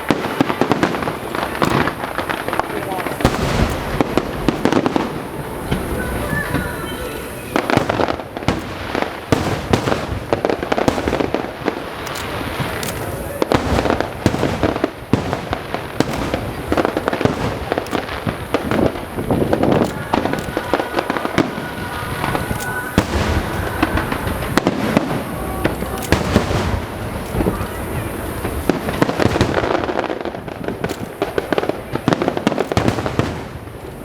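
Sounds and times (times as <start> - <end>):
fireworks bangs and crackling: 0.0 - 34.0.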